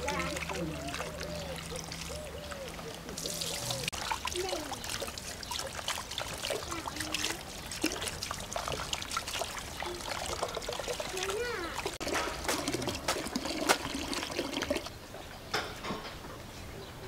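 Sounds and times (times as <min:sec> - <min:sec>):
water trickling and pouring: 0:00.0 - 0:15.0.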